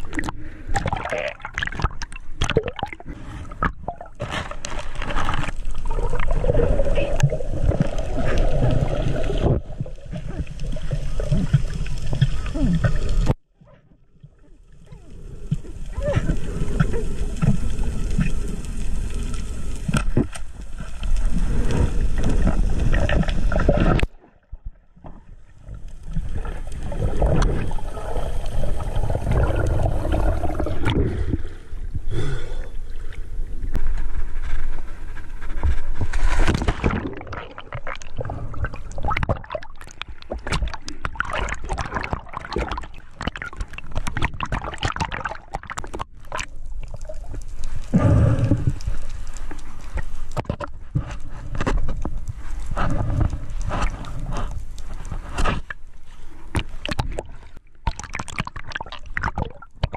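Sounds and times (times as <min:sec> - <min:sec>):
water sloshing and gurgling: 0:00.0 - 0:59.9
dense crackle of clicks: 0:03.6 - 0:13.4, 0:14.3 - 0:59.9.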